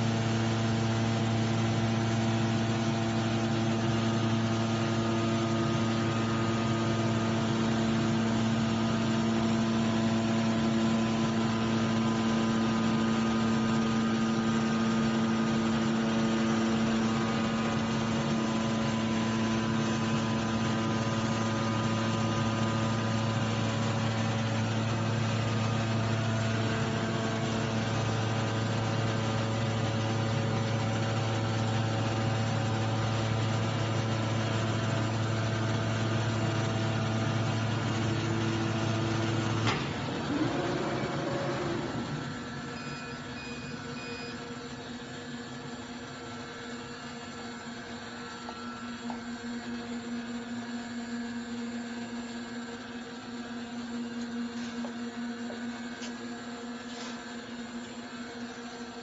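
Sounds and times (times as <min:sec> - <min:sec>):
cutting machine buzzing hum: 0:00.0 - 0:59.0.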